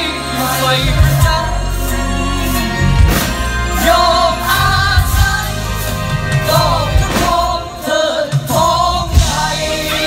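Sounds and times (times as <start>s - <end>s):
drum kits beating a rhythm: 0.0s - 10.0s.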